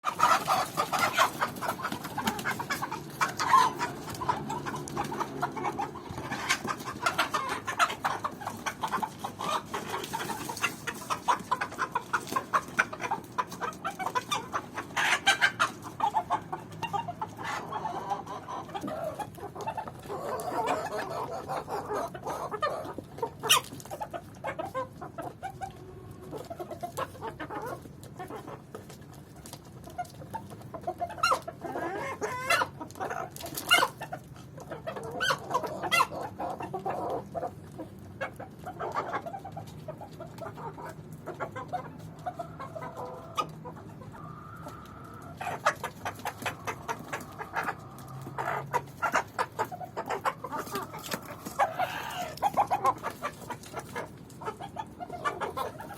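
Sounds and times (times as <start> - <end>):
long drawn-out chicken calls: 0.0 - 28.9, 29.8 - 55.9
chickens clucking: 0.0 - 55.9.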